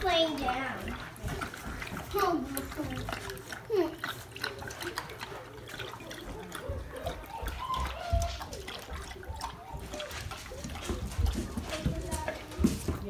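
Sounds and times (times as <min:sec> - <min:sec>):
dog lapping water: 0:00.0 - 0:13.0.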